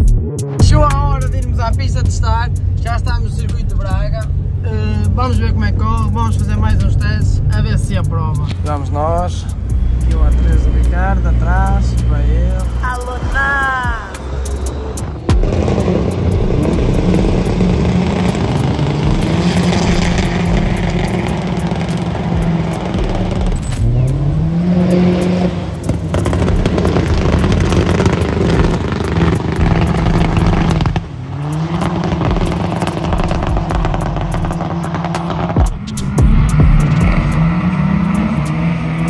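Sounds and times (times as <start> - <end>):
car engine revving hard: 0.0 - 39.0.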